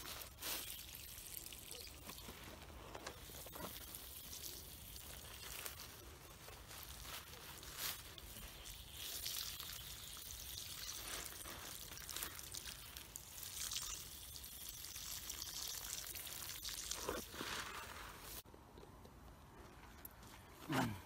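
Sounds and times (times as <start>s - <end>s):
water pouring into hole: 0.0s - 7.0s, 7.8s - 18.4s.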